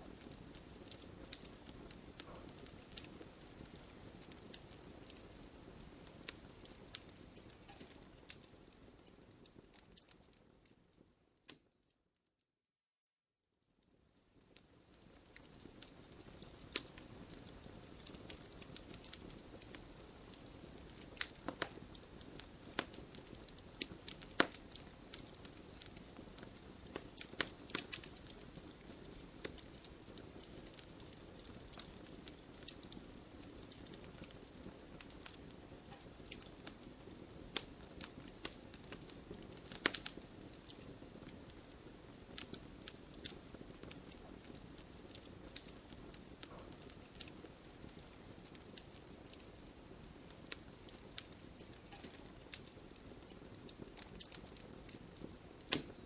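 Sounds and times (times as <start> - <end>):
wood fire crackling and popping: 0.0 - 11.8, 13.8 - 56.0.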